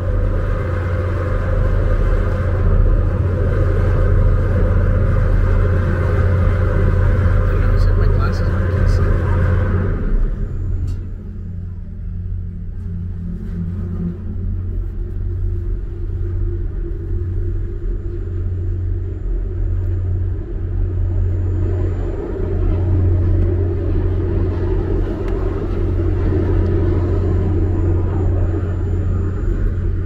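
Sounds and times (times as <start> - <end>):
ferry engine drone: 0.0 - 30.0.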